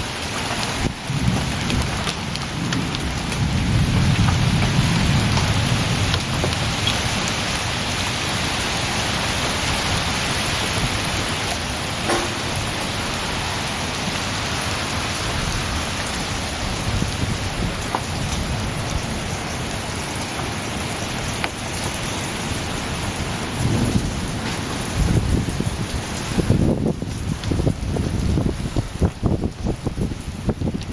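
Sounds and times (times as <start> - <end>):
heavy rain pouring: 0.0 - 30.9
thunder rumble: 0.8 - 7.5, 9.2 - 30.9.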